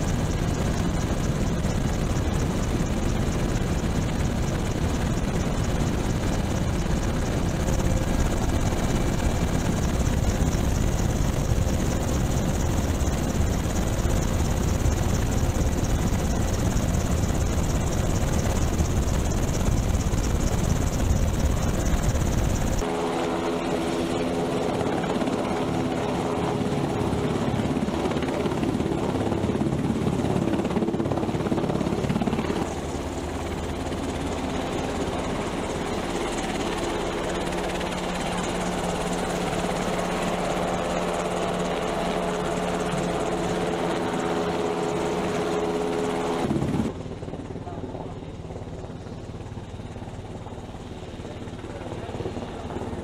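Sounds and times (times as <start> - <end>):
helicopter engine whine: 0.0 - 53.0
helicopter rotor chop: 0.0 - 53.0.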